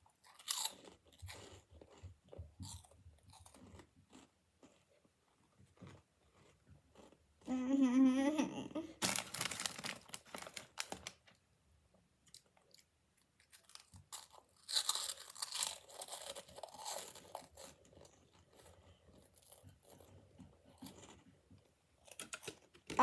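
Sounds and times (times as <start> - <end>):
crunchy snacks being chewed: 0.0 - 7.2, 9.0 - 11.2, 12.2 - 23.0.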